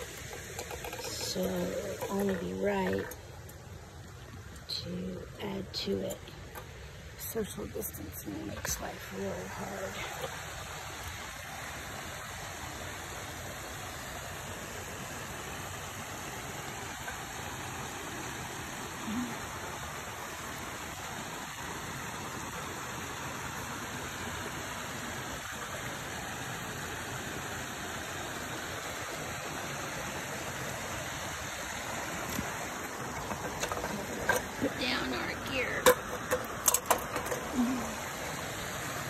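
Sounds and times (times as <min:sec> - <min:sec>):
creek water rushing over rocks: 0:00.0 - 0:39.0.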